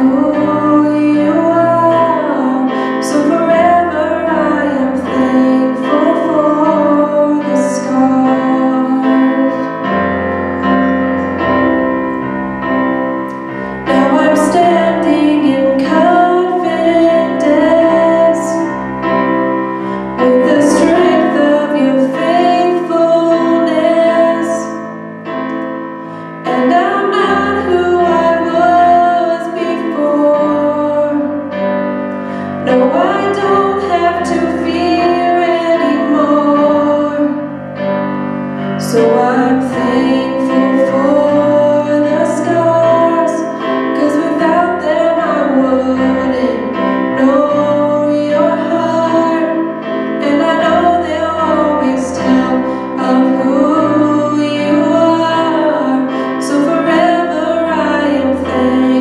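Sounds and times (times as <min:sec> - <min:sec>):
woman singing slow song: 0:00.0 - 0:10.1, 0:13.7 - 0:25.0, 0:26.4 - 0:31.6, 0:32.3 - 0:37.6, 0:38.7 - 0:59.0
digital piano: 0:00.0 - 0:59.0.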